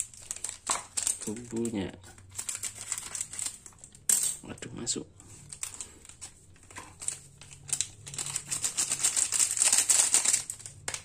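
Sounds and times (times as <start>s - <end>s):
foil sachet crinkling: 0.0s - 4.1s, 5.4s - 11.0s.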